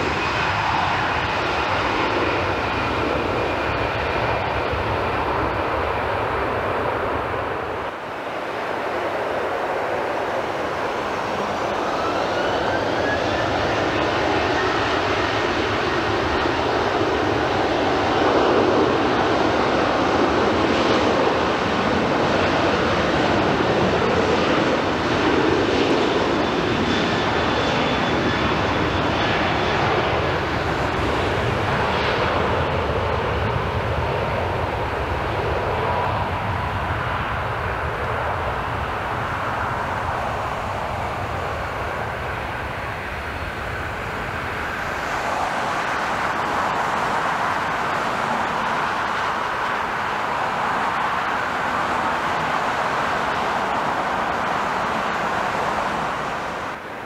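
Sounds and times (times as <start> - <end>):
jet engines spooling up: 0.0 - 57.0.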